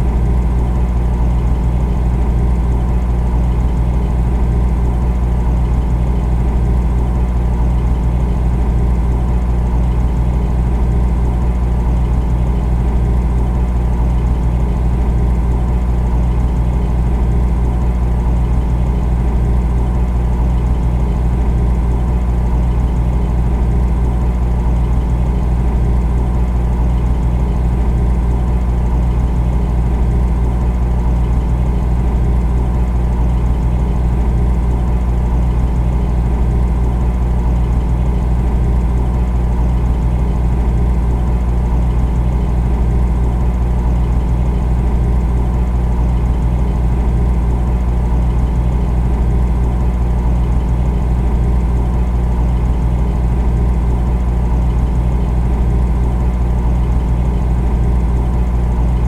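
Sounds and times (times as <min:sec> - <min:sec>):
refrigerator humming: 0:00.0 - 0:59.0.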